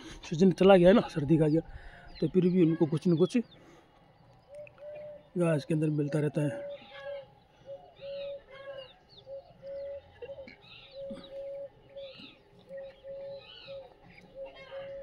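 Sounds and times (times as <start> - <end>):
chickens and chicks chirping: 0.0 - 15.0.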